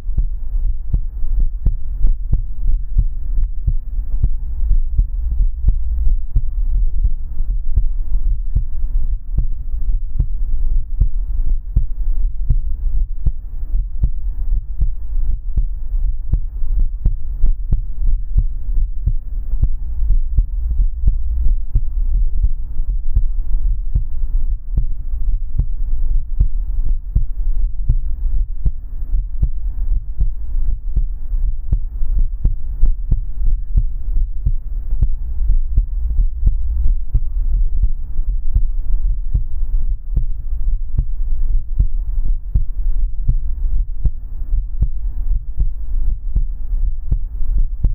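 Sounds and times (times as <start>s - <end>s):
faint steady hum: 0.0s - 47.9s
human heartbeat: 0.0s - 47.9s.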